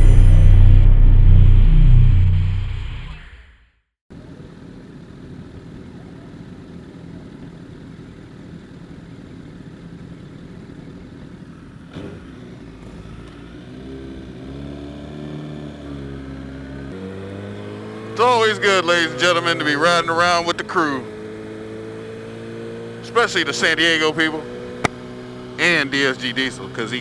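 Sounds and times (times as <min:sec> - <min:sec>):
motorcycle engine rumble: 0:04.2 - 0:27.0.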